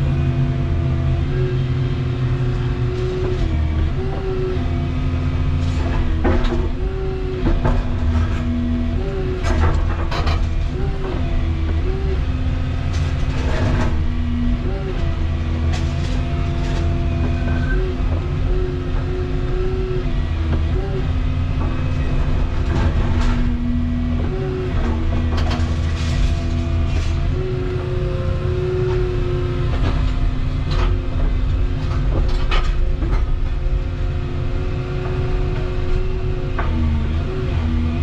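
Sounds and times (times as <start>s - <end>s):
excavator engine and hydraulic whine: 0.0s - 38.0s.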